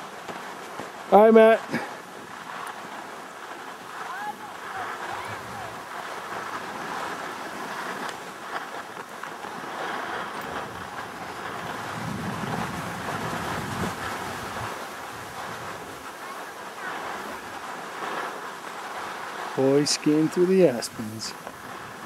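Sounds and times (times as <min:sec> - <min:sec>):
skis sliding over snow: 0:00.0 - 0:22.0
wind blowing on microphone: 0:01.1 - 0:18.4, 0:19.2 - 0:22.0.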